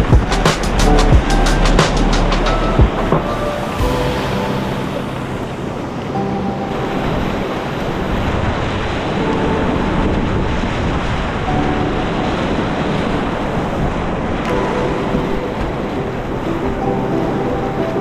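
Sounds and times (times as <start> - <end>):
rushing whitewater roar: 0.0 - 18.0
wind buffeting microphone: 0.0 - 18.0.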